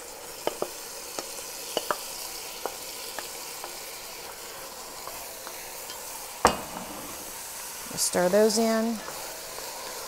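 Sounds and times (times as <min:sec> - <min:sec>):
vegetables sizzling in butter: 0:00.0 - 0:10.0.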